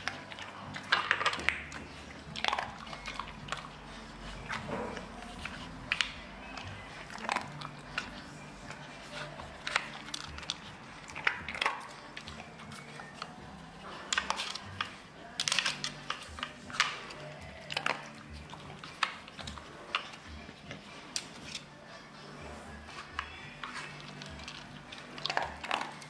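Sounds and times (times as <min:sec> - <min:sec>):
dog crunching treats: 0:00.0 - 0:26.0.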